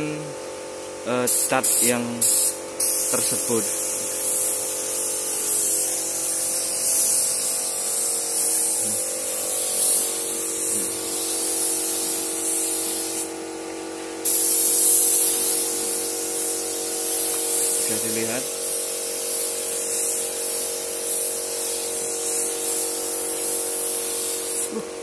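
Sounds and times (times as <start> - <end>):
steady hum: 0.0 - 25.0
spray gun hissing: 1.2 - 24.8.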